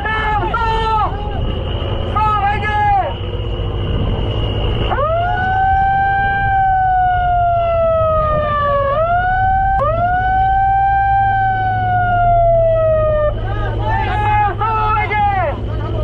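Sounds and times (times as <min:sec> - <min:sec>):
boat engine drone: 0:00.0 - 0:16.0
boat siren wailing: 0:00.0 - 0:16.0.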